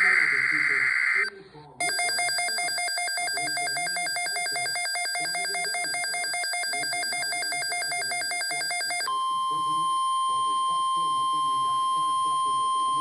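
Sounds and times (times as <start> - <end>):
pulsing electronic alarm trill: 0.0 - 13.0.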